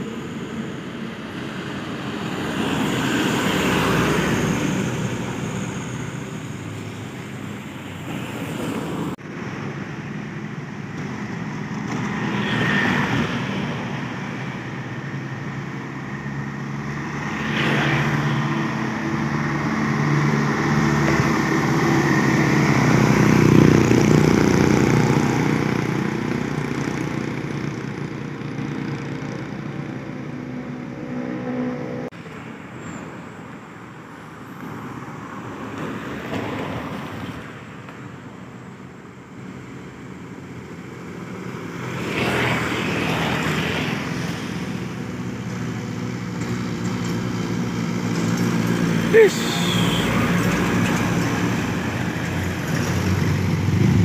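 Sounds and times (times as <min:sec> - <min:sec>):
trucks driving by: 0:00.0 - 0:54.0.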